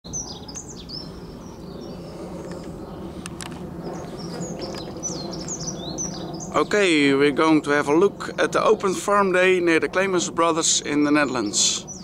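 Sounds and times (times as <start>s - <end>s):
low background rumble: 0.1s - 12.0s
small birds chirping: 0.1s - 12.0s.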